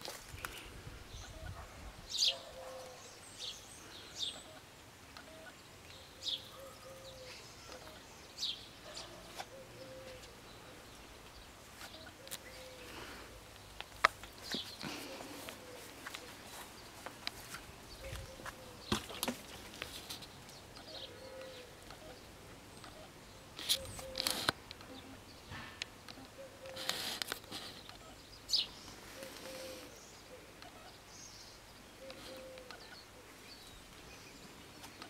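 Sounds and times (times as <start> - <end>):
garden birds chirping: 0.0 - 35.0.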